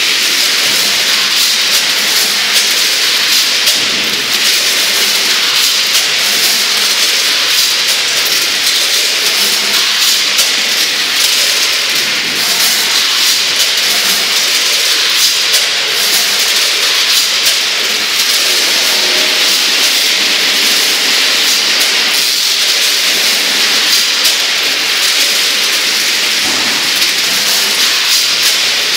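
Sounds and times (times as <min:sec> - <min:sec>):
machine hissing: 0:00.0 - 0:28.9.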